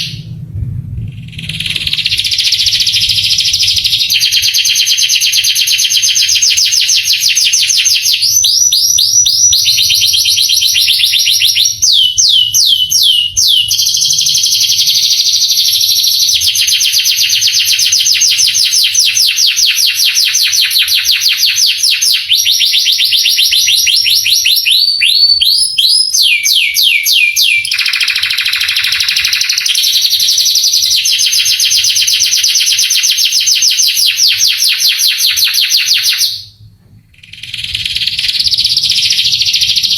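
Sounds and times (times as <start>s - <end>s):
canary singing trills: 0.0s - 0.4s, 1.2s - 36.5s, 37.1s - 39.9s.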